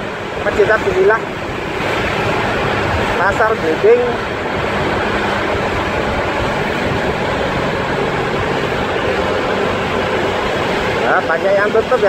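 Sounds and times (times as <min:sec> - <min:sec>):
low engine hum: 0:00.0 - 0:12.0
wind and road noise: 0:00.0 - 0:12.0.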